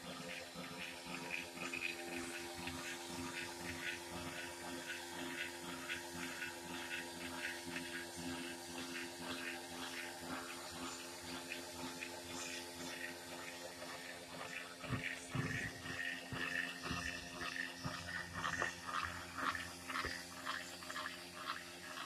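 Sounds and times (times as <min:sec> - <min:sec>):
electric motor humming and whirring: 0:00.0 - 0:22.0.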